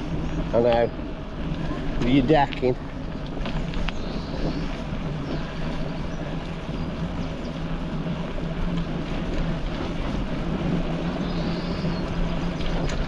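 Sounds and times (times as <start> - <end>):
bicycle tyre rumble: 0.0 - 13.0
constant low hum: 0.0 - 13.0.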